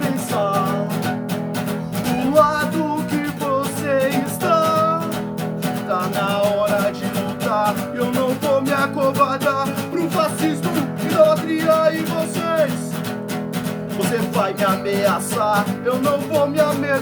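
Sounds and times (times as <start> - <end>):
guitar song: 0.0 - 17.0.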